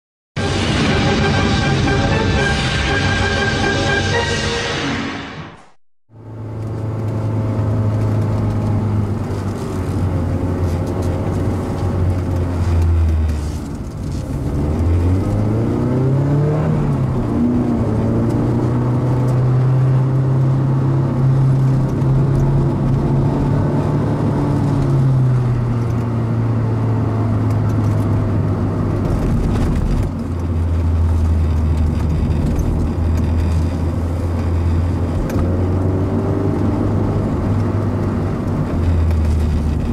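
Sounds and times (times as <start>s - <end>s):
car engine revving at speed: 6.3s - 39.9s.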